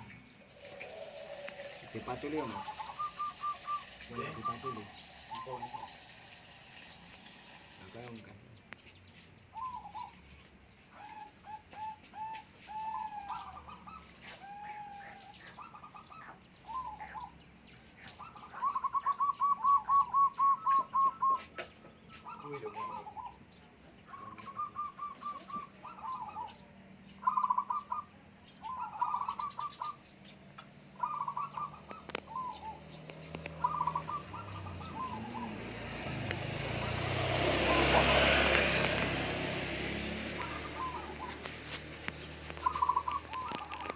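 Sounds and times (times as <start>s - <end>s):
doves cooing: 0.0s - 7.8s, 9.5s - 43.9s.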